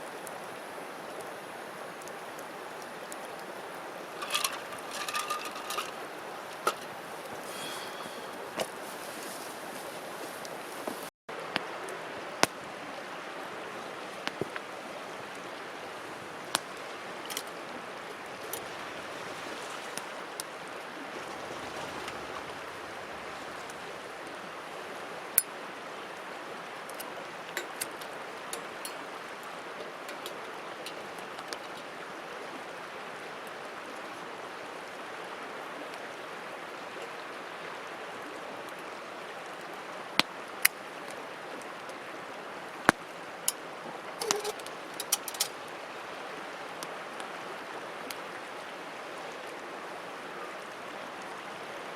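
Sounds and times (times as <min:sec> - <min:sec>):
campfire hissing and crackling: 0:00.0 - 0:51.9.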